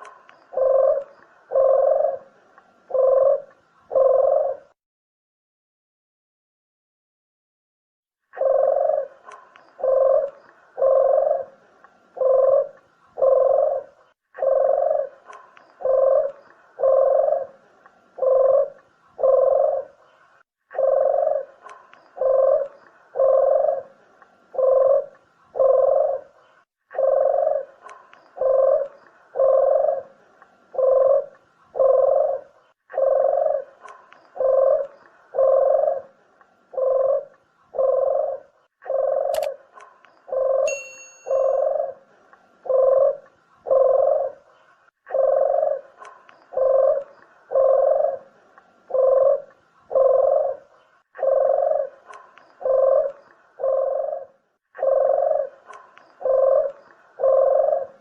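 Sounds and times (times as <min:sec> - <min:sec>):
dove cooing: 0:00.0 - 0:04.8, 0:08.3 - 0:58.0.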